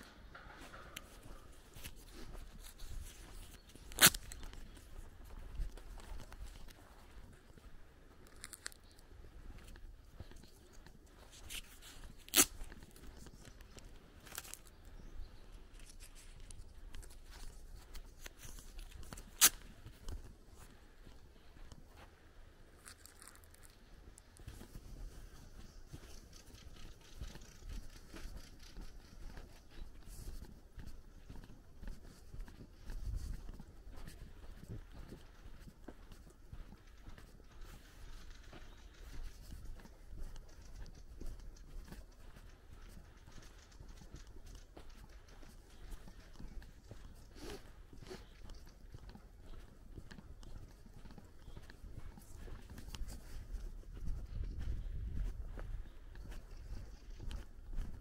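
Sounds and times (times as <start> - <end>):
footsteps on dirt path: 0.0 - 58.0.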